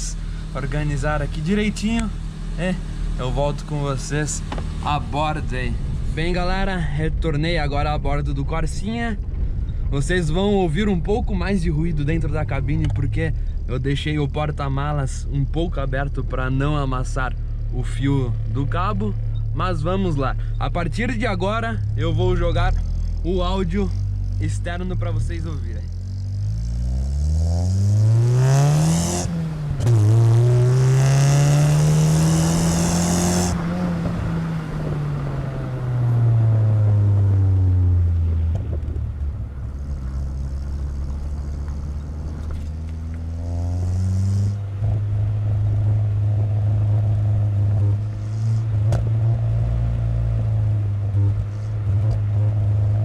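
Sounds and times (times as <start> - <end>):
car exhaust revving: 0.0 - 53.0.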